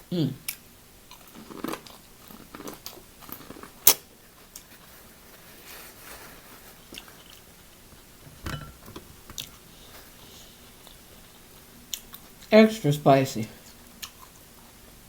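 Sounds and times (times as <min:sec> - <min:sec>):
person chewing food: 0:00.4 - 0:08.2, 0:09.3 - 0:12.5, 0:13.6 - 0:14.9.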